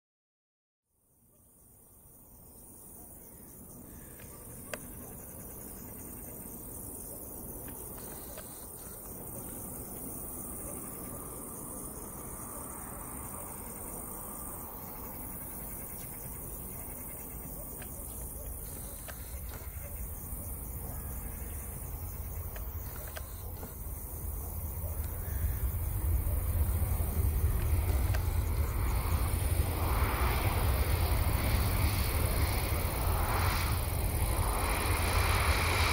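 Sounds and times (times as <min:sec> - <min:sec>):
high-pitched insect chirping: 0:02.2 - 0:35.9
jet engines rumbling: 0:04.5 - 0:35.9.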